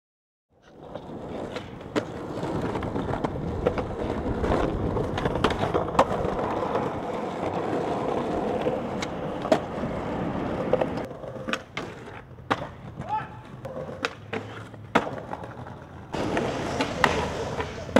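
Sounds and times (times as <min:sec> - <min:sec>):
skateboard wheels rolling on concrete: 0:00.5 - 0:17.9
skateboard clacks: 0:00.6 - 0:17.9.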